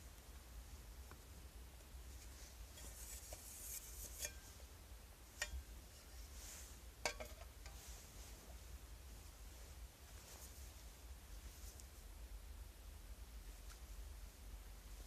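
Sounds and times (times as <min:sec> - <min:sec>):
faint rustling: 0:00.0 - 0:12.2.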